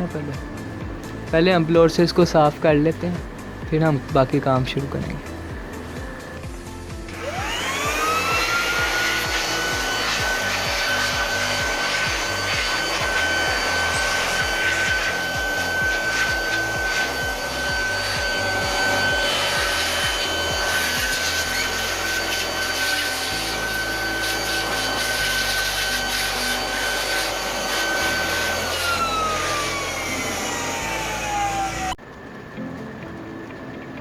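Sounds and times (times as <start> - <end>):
electric air blower whining: 0.0 - 33.5.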